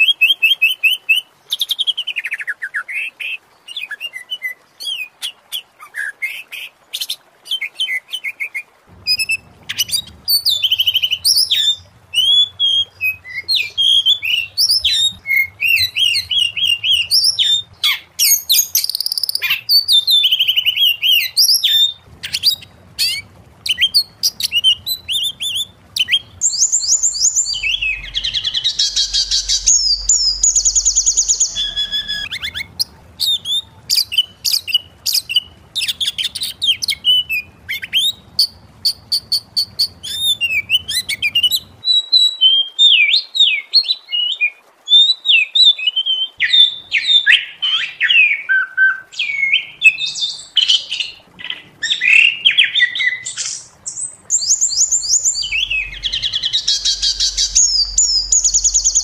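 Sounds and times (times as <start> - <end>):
bird singing whistled phrases: 7.5 - 51.1, 51.8 - 59.0.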